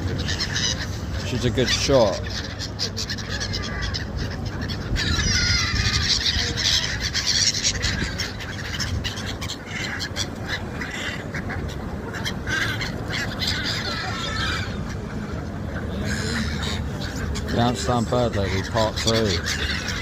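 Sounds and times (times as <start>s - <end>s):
seagulls calling: 0.0s - 20.0s.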